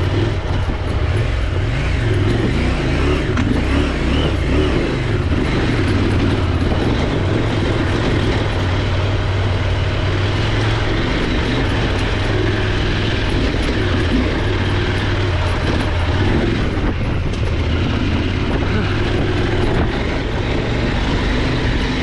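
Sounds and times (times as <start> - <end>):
motorcycle engine running: 0.0 - 22.0
noisy rush: 0.0 - 22.0.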